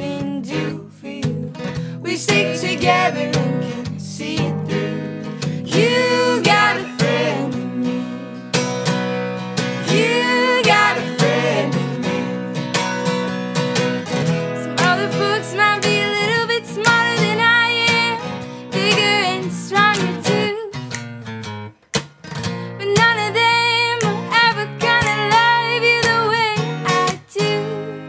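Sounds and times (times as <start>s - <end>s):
person singing: 0.0s - 8.5s, 9.8s - 12.6s, 14.6s - 20.7s, 22.8s - 28.0s
strummed acoustic guitar: 0.0s - 28.0s.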